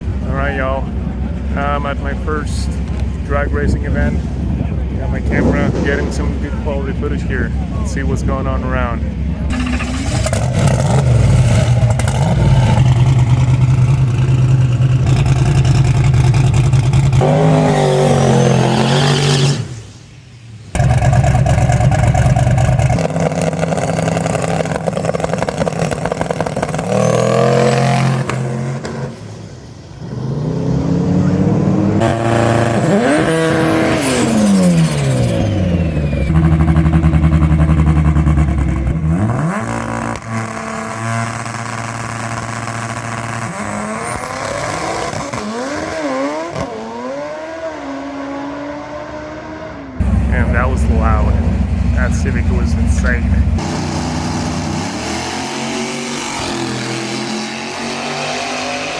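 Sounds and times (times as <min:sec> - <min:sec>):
drag racing car engines accelerating: 0:00.0 - 0:20.0, 0:20.8 - 0:58.9.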